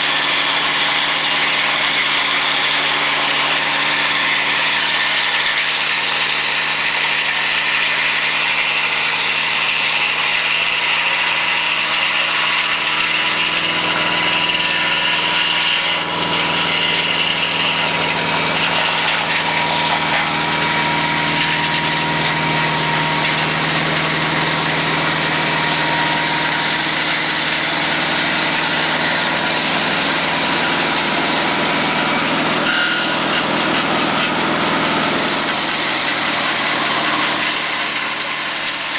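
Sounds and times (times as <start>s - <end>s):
sawmill running: 0.0s - 38.9s.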